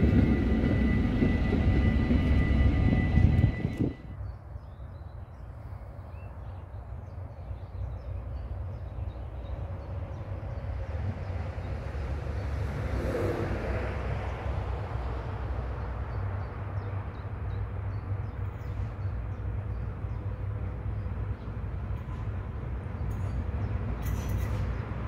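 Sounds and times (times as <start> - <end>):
diesel locomotive engine drone: 0.0 - 4.6, 6.9 - 25.0.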